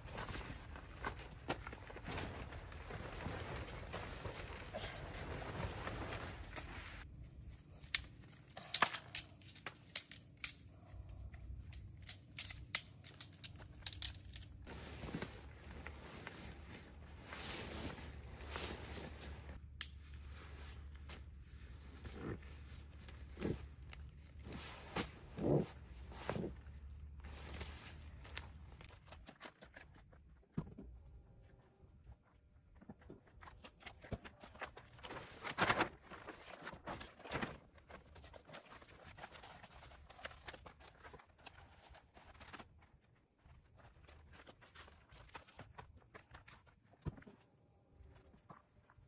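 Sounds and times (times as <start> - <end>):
rustling and crinkling: 0.0 - 49.0.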